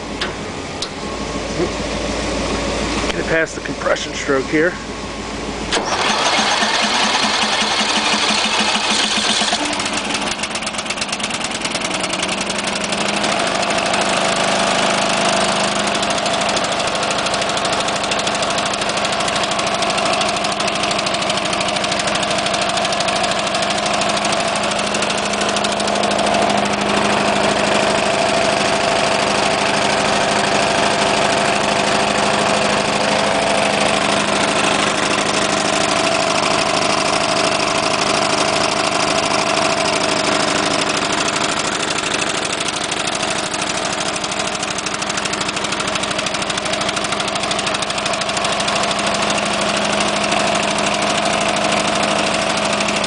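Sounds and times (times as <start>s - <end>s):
lawn tractor engine idling: 0.0s - 53.0s.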